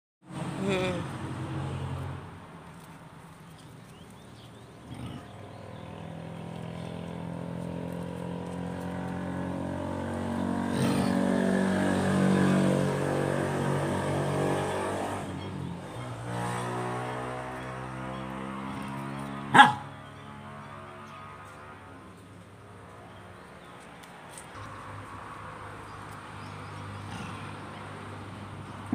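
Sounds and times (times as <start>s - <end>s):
vehicle engine passing: 0.2s - 2.9s, 4.1s - 28.9s.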